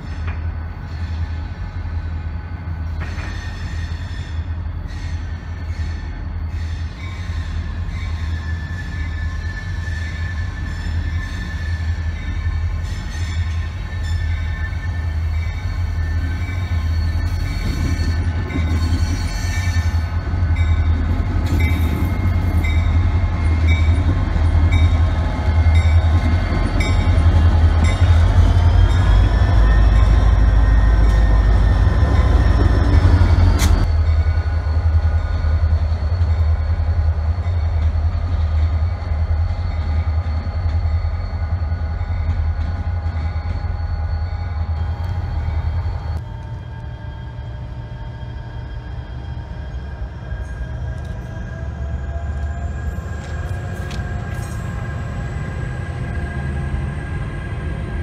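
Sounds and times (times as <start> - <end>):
locomotive engine rumble: 10.1 - 58.0.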